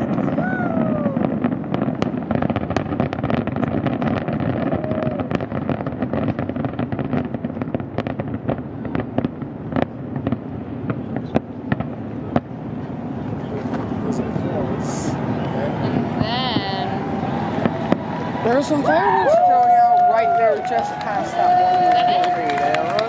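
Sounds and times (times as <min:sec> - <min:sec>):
fireworks bangs and crackle: 0:00.0 - 0:23.0.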